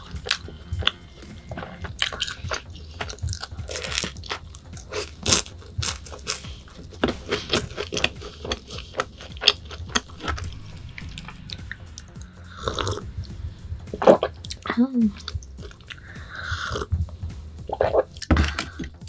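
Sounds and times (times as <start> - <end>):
crunchy chewing: 0.0 - 13.1, 13.9 - 16.9
wet mouth sounds: 0.0 - 13.1, 13.9 - 19.0.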